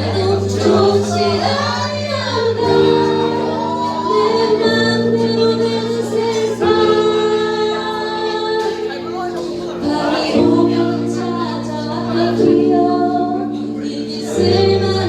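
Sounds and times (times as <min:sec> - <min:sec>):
woman singing lead vocal: 0:00.0 - 0:15.0.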